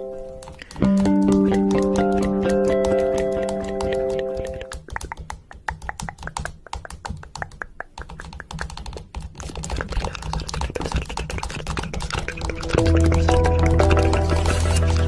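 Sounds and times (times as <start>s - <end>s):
small sharp clicks and taps: 0.4s - 12.7s.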